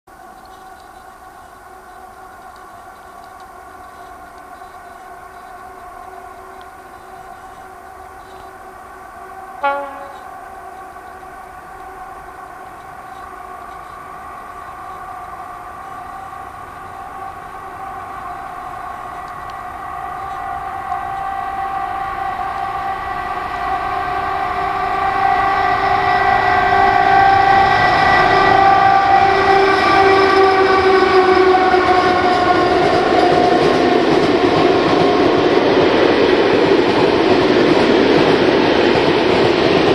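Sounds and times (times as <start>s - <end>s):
locomotive whine: 0.1s - 39.9s.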